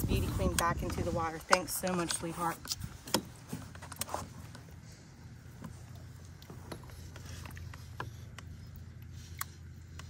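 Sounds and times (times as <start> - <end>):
low steady rumble: 0.0 - 10.0
soft water sounds: 0.0 - 10.0.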